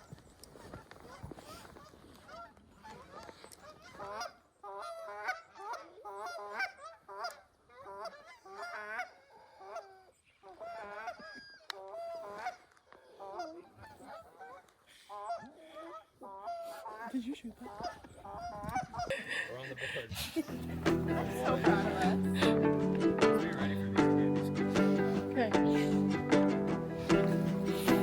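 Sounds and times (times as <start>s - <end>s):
geese honking: 2.3s - 19.1s, 20.5s - 28.0s.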